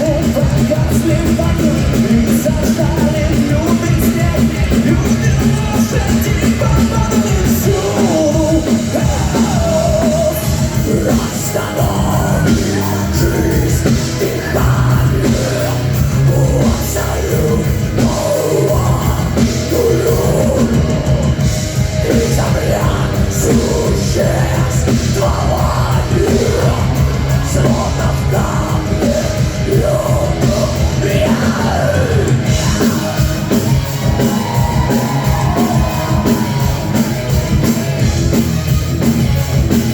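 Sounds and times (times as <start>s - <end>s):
bending melodic lead guitar: 0.0s - 39.9s
heavy metal band playing: 0.0s - 39.9s.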